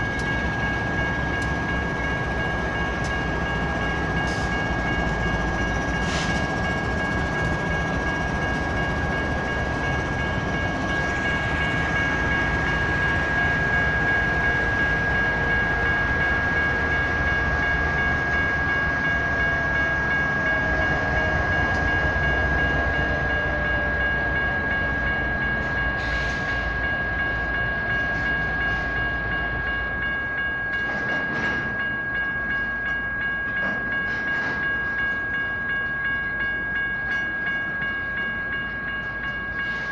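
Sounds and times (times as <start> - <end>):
high-pitched crossing bell ringing: 0.0 - 39.9
train wheels rumbling on rails: 0.0 - 39.9.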